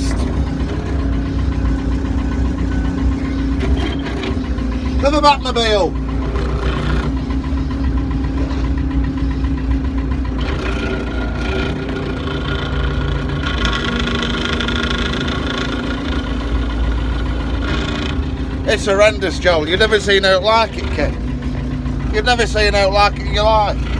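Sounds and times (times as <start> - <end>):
diesel engine droning: 0.0 - 23.9.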